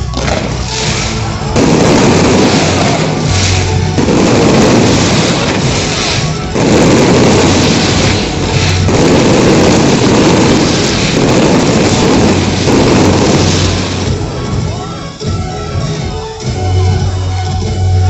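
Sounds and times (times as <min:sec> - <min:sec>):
fireworks booming: 0:00.0 - 0:15.8.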